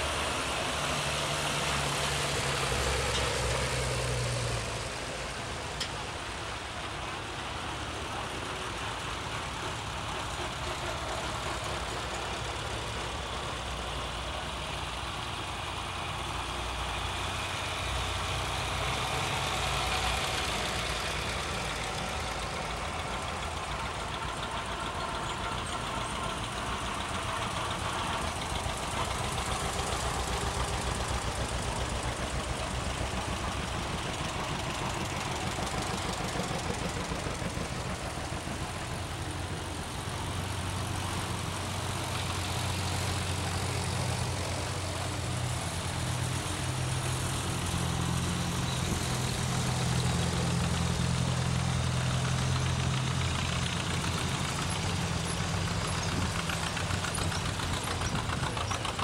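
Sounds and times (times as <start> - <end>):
pulsing tractor engine: 0.0 - 59.0
tractor engines driving past: 0.0 - 59.0.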